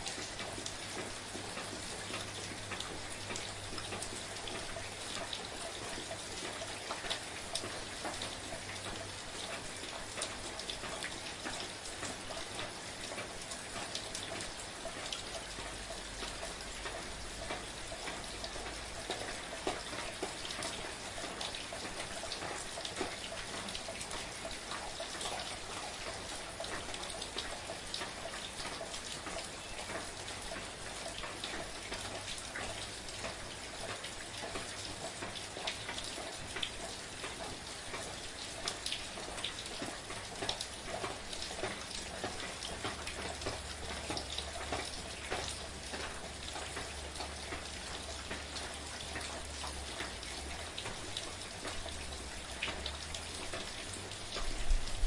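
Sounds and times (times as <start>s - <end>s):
raindrops pattering: 0.0s - 55.0s
soft rain hiss: 0.0s - 55.0s.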